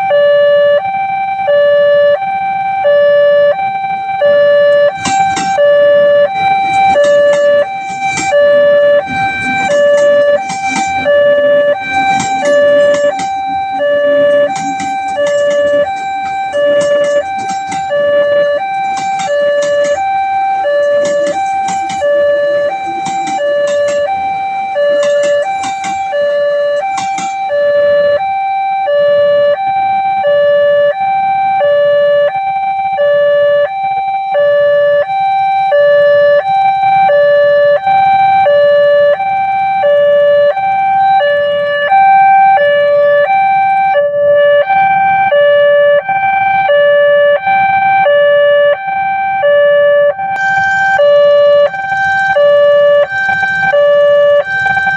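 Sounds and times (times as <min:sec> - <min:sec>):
level crossing two-tone alarm: 0:00.0 - 0:54.9.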